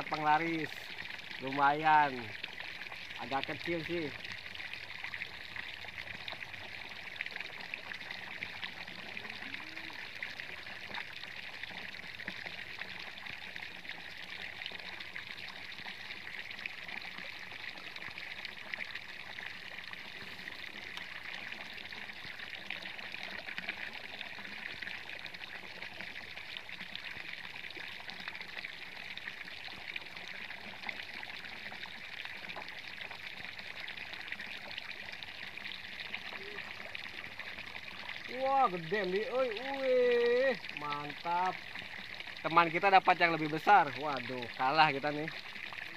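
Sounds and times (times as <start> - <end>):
water pouring and splashing: 0.0 - 45.9.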